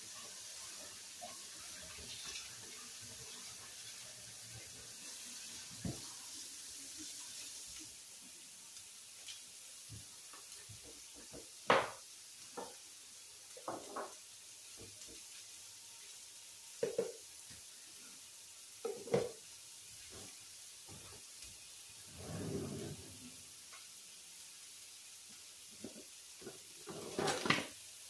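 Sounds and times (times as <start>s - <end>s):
chicken sizzling on a grill: 0.0s - 28.0s.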